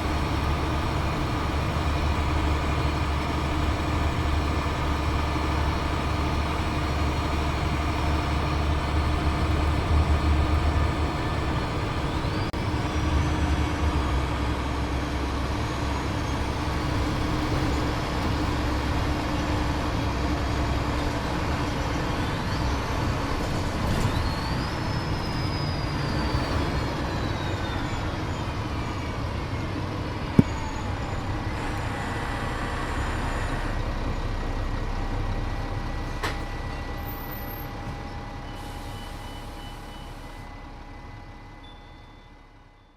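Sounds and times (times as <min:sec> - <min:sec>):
bus engine humming: 0:00.0 - 0:42.8.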